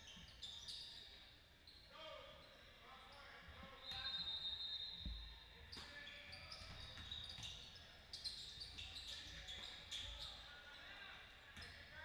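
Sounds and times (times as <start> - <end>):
shoe squeaks: 0.0 - 1.9, 3.2 - 10.9.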